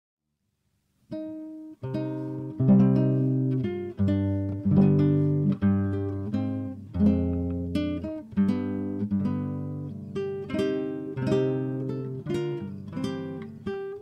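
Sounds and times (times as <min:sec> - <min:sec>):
acoustic guitar strumming chords: 0:01.1 - 0:14.0.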